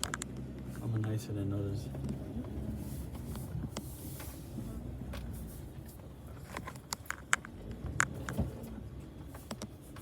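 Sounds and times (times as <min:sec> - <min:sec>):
vehicle rolling slowly: 0:00.0 - 0:10.0.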